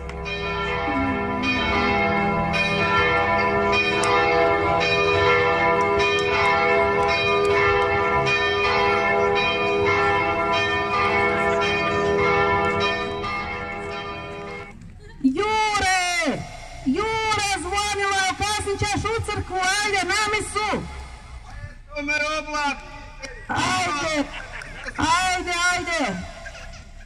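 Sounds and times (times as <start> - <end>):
church bells ringing: 0.0 - 21.4, 22.3 - 27.0.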